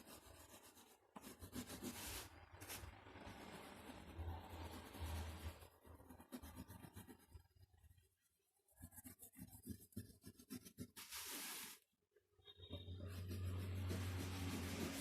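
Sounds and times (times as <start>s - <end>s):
drawing strokes on paper: 0.0s - 11.8s, 12.8s - 15.0s.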